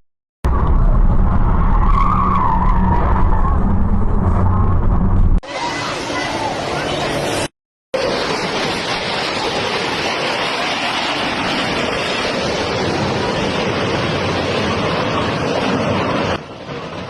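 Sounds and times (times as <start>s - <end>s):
wind and tyre roar: 0.4s - 5.4s, 8.0s - 17.0s.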